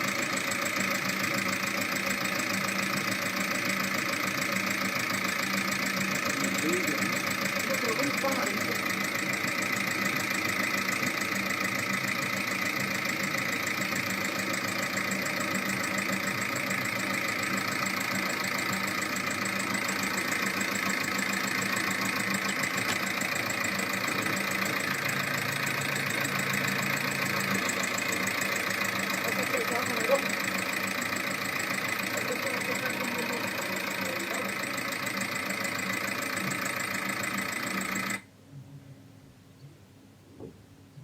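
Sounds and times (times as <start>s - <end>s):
engine ticking knock: 0.0s - 38.2s
diesel engine running: 0.0s - 38.3s.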